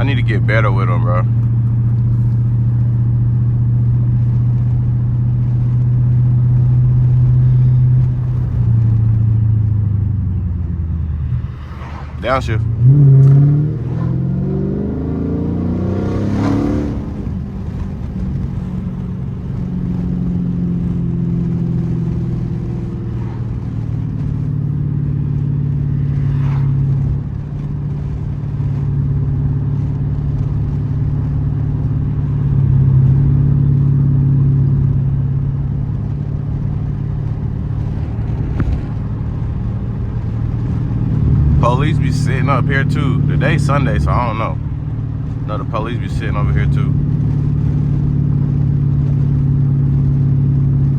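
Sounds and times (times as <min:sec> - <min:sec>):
loud car exhaust revving: 0:00.0 - 0:50.9.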